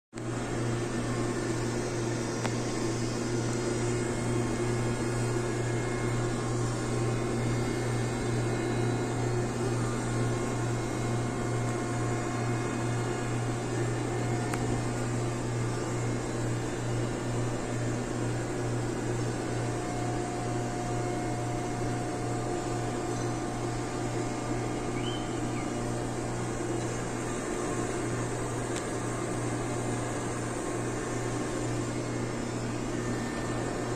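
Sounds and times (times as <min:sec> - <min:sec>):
heavy machinery engines droning: 0:02.2 - 0:33.9.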